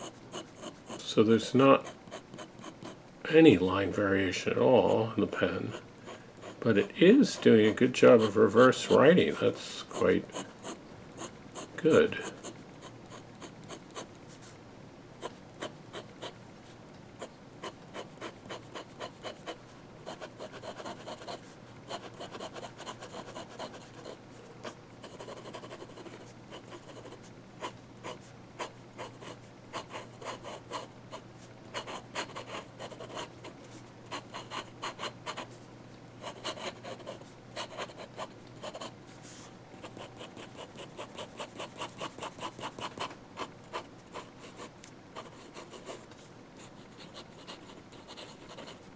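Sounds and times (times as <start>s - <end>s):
pen nib scratching on paper: 0.0s - 1.1s, 1.8s - 3.0s, 5.6s - 9.0s, 9.9s - 14.5s, 15.2s - 16.4s, 17.2s - 33.3s, 34.1s - 35.5s, 36.2s - 38.9s, 39.8s - 48.9s.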